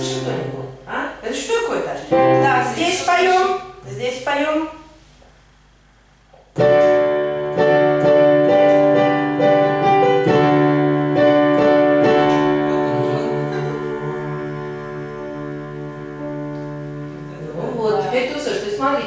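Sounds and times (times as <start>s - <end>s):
piano chords: 0.0s - 3.8s, 6.5s - 19.0s.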